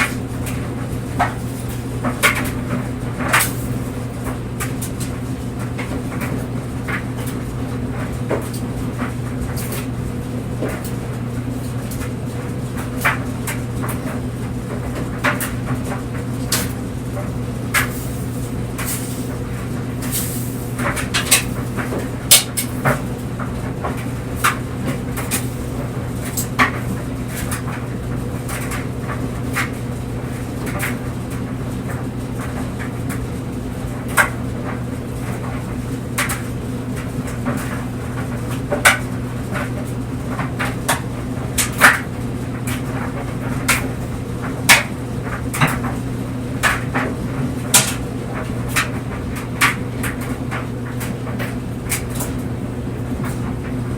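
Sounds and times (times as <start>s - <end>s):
clothes dryer motor hum: 0.0s - 53.9s
clothes tumbling in dryer drum: 0.0s - 53.9s.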